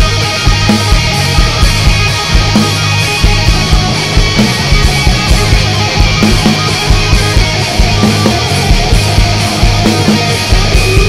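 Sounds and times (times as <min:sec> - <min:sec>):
drum beat: 0:00.0 - 0:11.0
electric guitars and bass: 0:00.0 - 0:11.0.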